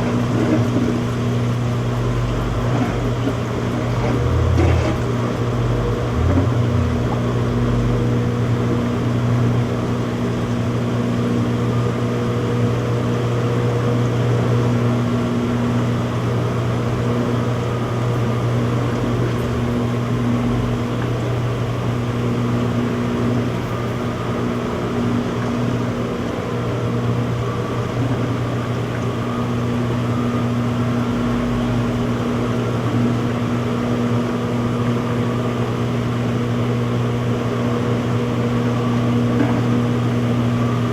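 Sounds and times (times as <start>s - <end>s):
washing machine spinning hum: 0.0s - 40.9s.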